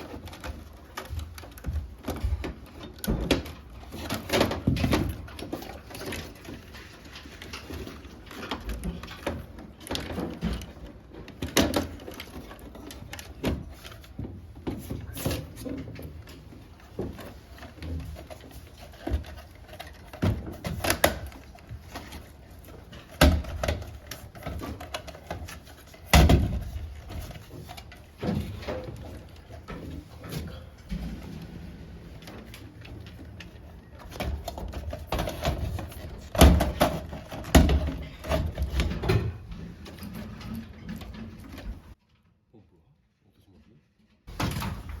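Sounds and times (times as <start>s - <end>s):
clicks and clatters of parts handled: 0.0s - 30.9s, 32.1s - 42.2s.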